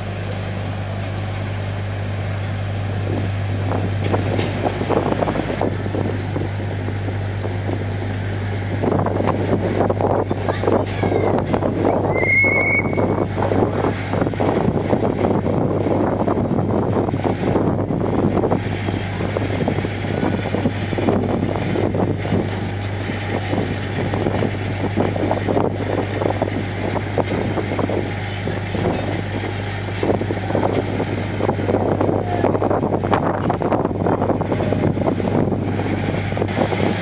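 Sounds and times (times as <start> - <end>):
ship engines humming: 0.0 - 37.0
wind buffeting microphone: 0.0 - 37.0.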